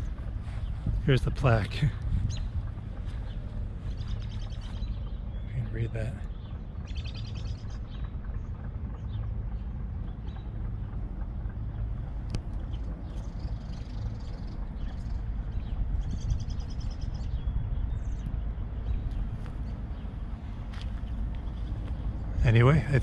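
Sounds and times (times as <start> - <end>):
birds chirping: 0.0 - 23.0
steady low rumble: 0.0 - 23.0
rapid bird trill: 2.0 - 23.0.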